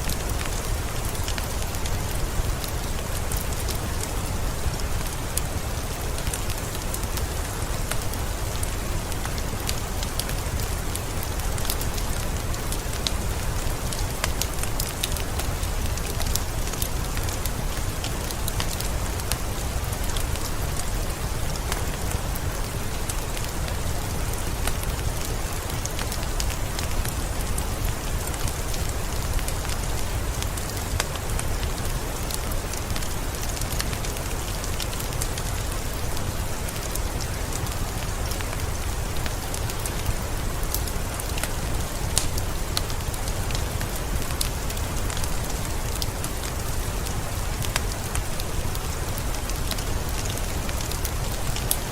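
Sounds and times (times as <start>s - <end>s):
steady rain: 0.0s - 51.9s
wood fire crackling: 0.0s - 51.9s.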